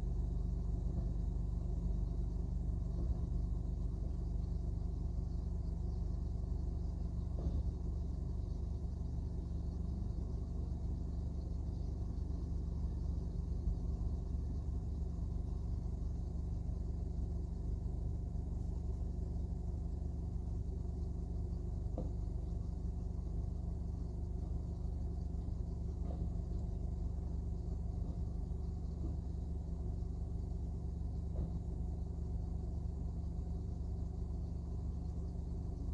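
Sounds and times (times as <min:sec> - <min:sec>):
distant truck engine rumble: 0:00.8 - 0:32.5.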